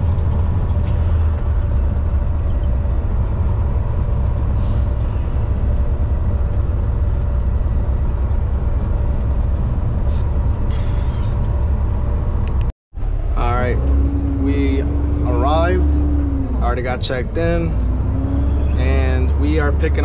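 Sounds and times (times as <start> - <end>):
diesel truck engine humming: 0.0 - 20.0
road noise: 0.0 - 20.0.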